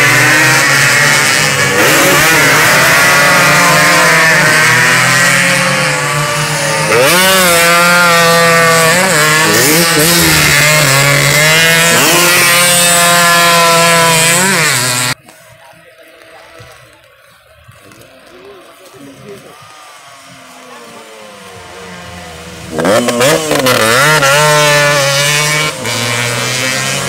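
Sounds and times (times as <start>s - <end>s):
two-stroke motorcycle engines racing: 0.0s - 27.0s.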